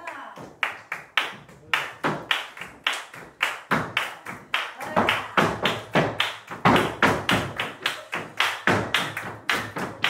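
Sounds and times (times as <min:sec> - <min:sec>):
hand clapping: 0:00.0 - 0:10.0
dance shoes tapping on floor: 0:00.1 - 0:10.0.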